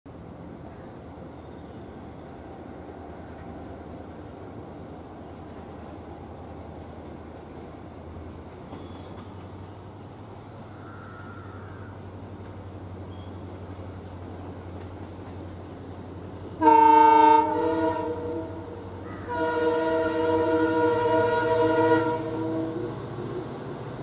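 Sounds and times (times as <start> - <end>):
diesel locomotive engine hum: 0.1 - 24.0.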